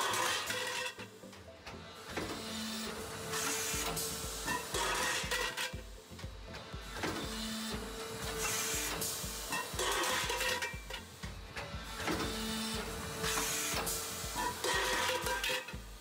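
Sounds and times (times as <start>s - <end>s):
hydraulic press steady tone: 0.0s - 16.0s
hydraulic hiss bursts: 2.0s - 5.7s, 6.9s - 16.0s.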